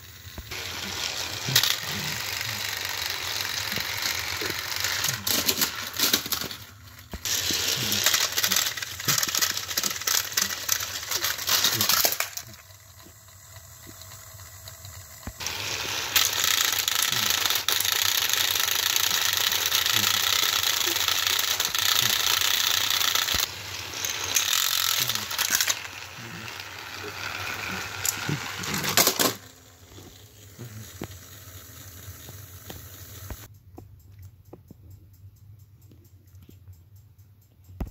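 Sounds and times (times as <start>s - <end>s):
toy train motors whirring: 0.0s - 33.5s.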